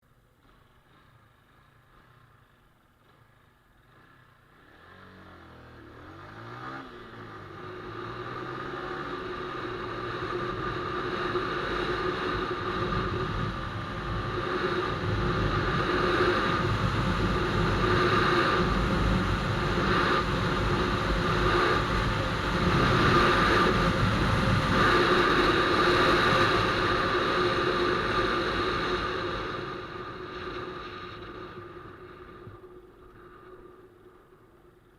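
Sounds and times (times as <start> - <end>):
motorcycle engine accelerating: 0.2 - 34.6.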